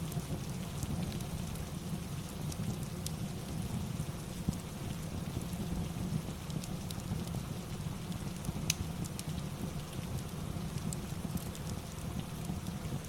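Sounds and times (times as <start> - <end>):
fireplace crackling and popping: 0.0 - 13.0
steady rain: 0.0 - 13.0.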